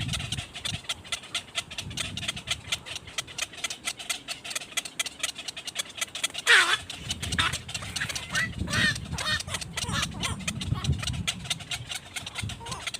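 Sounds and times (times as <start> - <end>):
bird chirps in fast run: 0.0 - 12.9.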